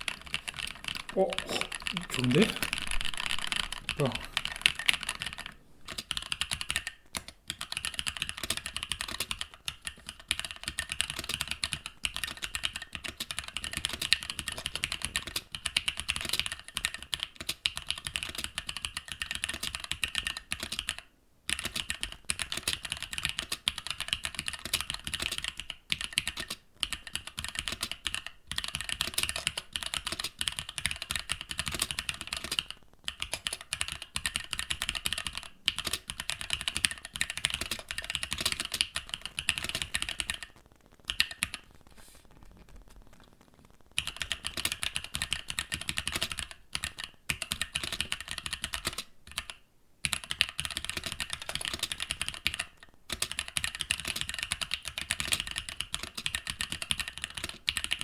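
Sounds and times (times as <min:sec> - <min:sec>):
fast mechanical keyboard typing: 0:00.0 - 0:41.7, 0:44.0 - 0:58.0.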